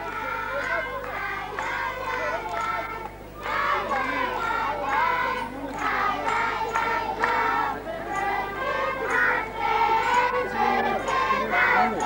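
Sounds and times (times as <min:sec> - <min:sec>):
accordion: 0:00.0 - 0:12.0
children singing: 0:00.0 - 0:12.0.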